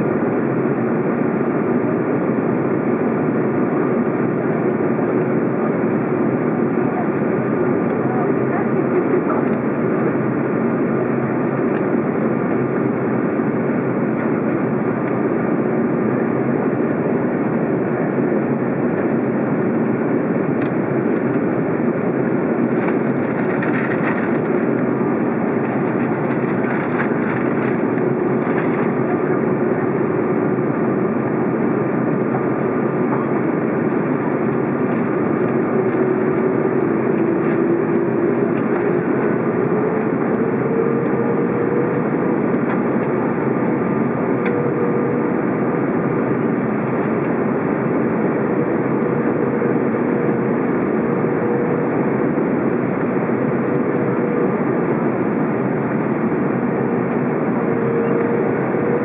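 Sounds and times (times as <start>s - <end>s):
aircraft cabin engine noise: 0.0s - 59.0s.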